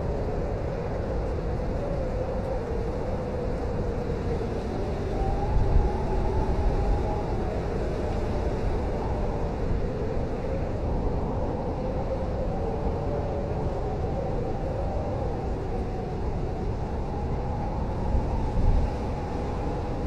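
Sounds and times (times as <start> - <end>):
blizzard wind howling: 0.0 - 20.0.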